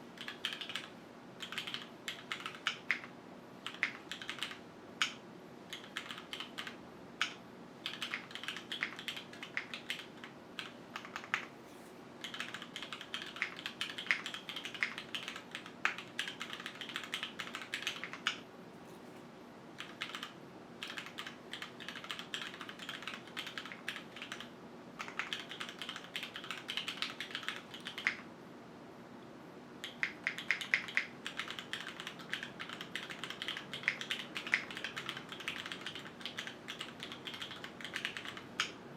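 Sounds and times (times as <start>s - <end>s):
mechanical keyboard typing: 0.2s - 11.5s, 12.2s - 18.4s, 19.8s - 28.2s, 29.8s - 38.8s.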